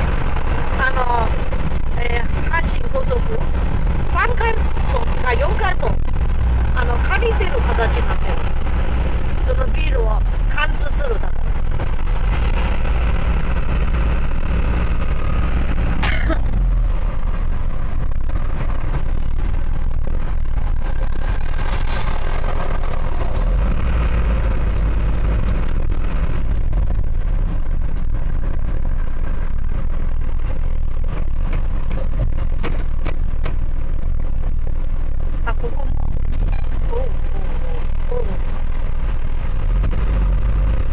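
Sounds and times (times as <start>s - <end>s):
engine and road rumble: 0.0s - 40.9s.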